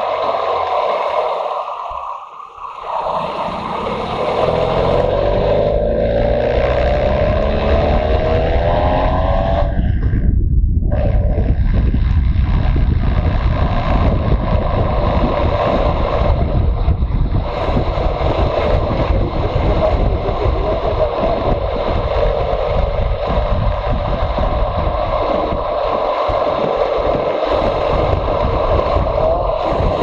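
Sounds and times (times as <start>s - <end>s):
wind rushing over microphone: 0.0s - 30.0s
motorcycle engine running: 3.2s - 30.0s.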